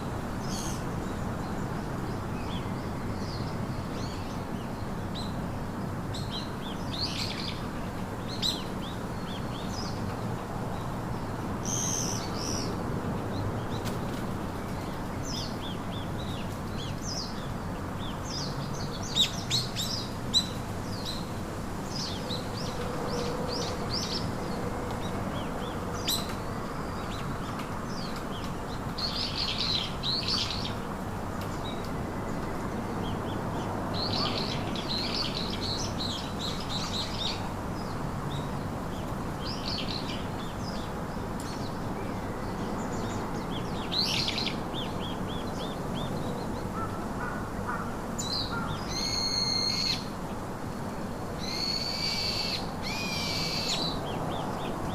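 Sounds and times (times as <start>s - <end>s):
low outdoor background hiss: 0.0s - 54.9s
songbirds chirping and twittering: 0.0s - 54.9s.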